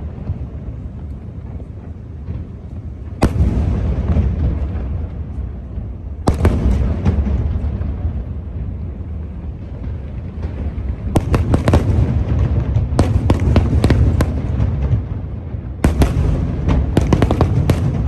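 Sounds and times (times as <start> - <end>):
fireworks booming rumble: 0.0 - 18.0
fireworks crackling: 0.0 - 18.0.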